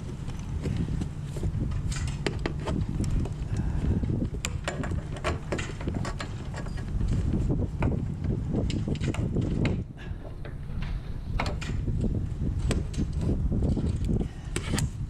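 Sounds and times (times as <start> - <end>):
wind buffeting microphone: 0.0 - 15.0
sharp clicks and knocks: 1.7 - 15.0.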